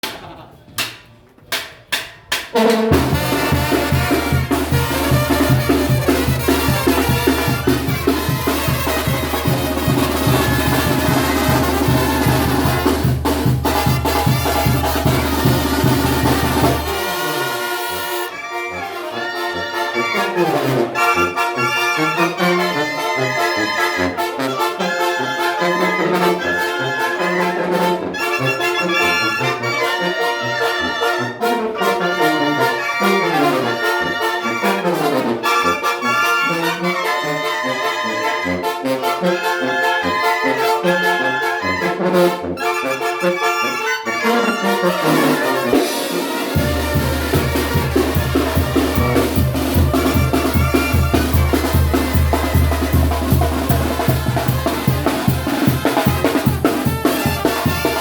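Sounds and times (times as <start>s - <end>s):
brass band playing: 2.5s - 58.0s.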